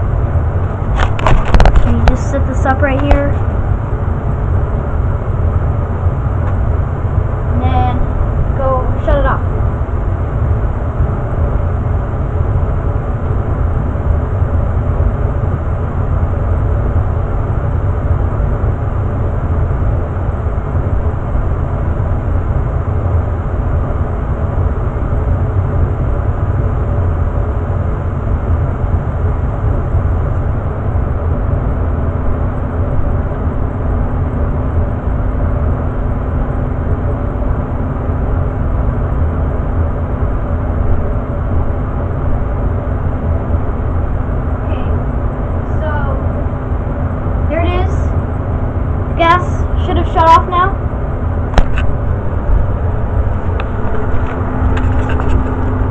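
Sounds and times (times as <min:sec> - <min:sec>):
faint low hum: 0:00.0 - 0:55.9
gas furnace blower rumble: 0:00.0 - 0:55.9.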